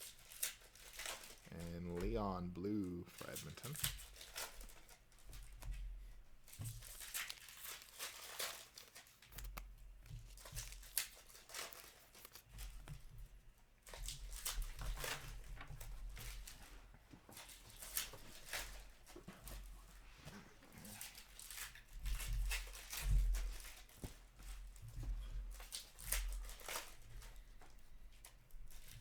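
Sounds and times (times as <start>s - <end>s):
wrappers tearing and crinkling: 0.0s - 2.1s, 3.0s - 13.1s, 13.8s - 16.7s, 17.3s - 20.0s, 20.7s - 29.0s.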